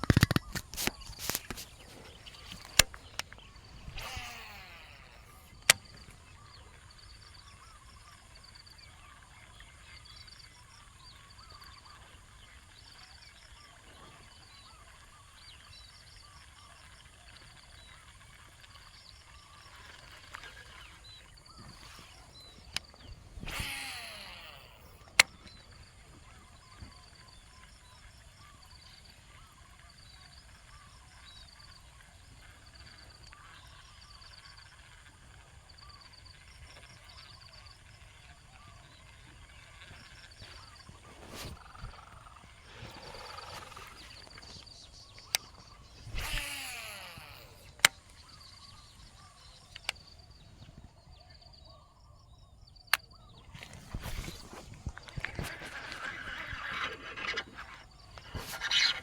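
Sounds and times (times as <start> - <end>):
sharp clicks: 0.0 - 13.6, 16.8 - 51.0, 52.9 - 59.0
faint bird calls: 0.0 - 59.0.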